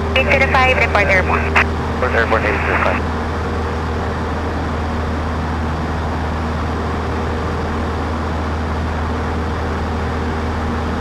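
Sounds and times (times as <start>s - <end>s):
airplane engine and propeller drone: 0.0s - 11.0s.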